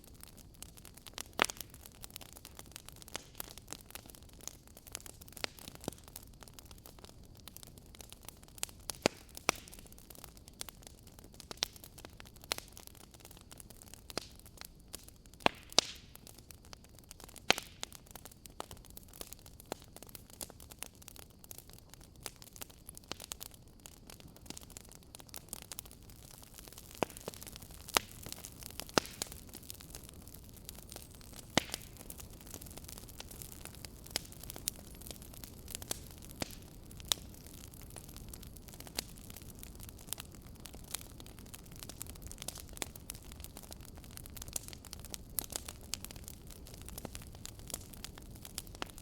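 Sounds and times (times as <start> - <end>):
fire pops: 0.0 - 49.0
low steady hiss: 0.0 - 49.0
wood fire crackling: 0.0 - 49.0.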